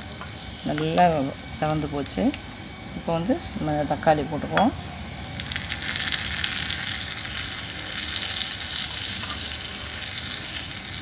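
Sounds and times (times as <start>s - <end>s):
tomatoes sizzling in hot oil: 0.0s - 11.0s.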